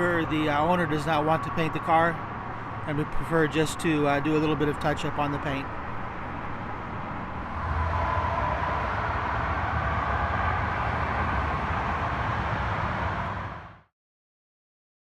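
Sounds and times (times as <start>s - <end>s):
traffic rumble: 0.0s - 13.8s.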